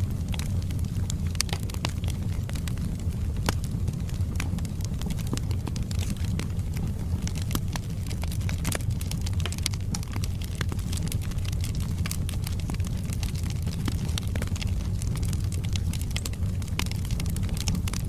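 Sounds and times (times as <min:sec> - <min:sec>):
low rumble of flames: 0:00.0 - 0:18.0
wood crackling and popping: 0:00.0 - 0:18.0.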